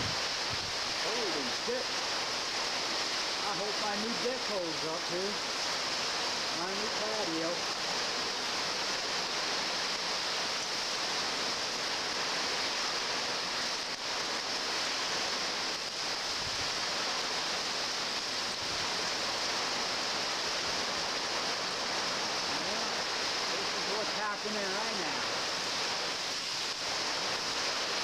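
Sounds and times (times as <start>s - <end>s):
driving rain: 0.0s - 28.0s
hurricane wind: 0.0s - 28.0s.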